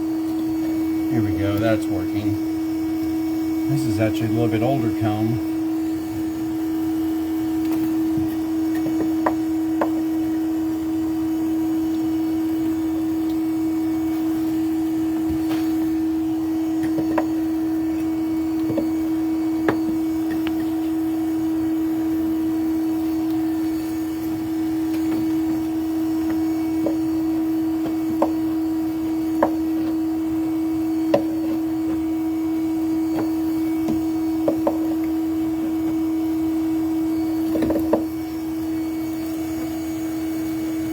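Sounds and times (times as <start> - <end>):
vacuum motor hum: 0.0 - 40.9.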